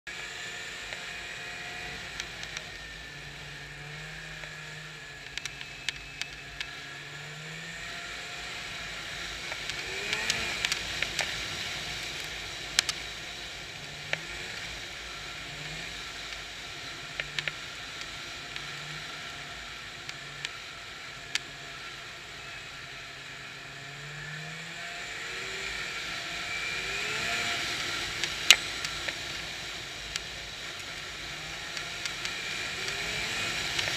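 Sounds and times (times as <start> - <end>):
snowmobile engine running: 0.1 - 33.9.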